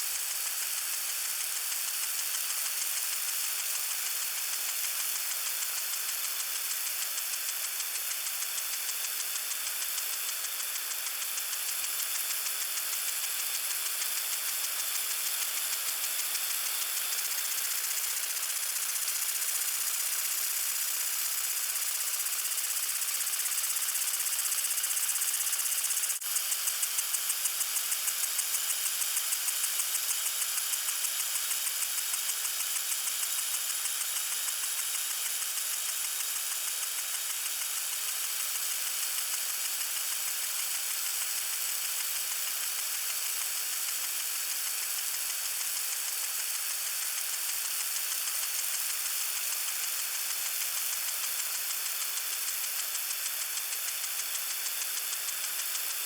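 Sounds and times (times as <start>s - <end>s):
lawn sprinkler spraying water: 0.0s - 56.0s.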